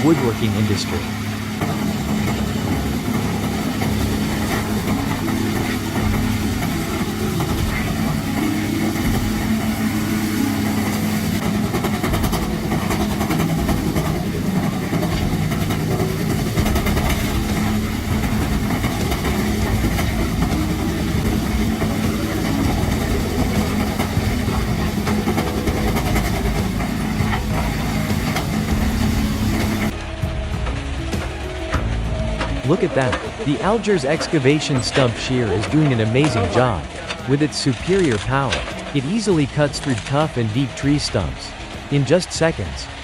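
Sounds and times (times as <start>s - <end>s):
heavy engine drone: 0.0s - 43.0s.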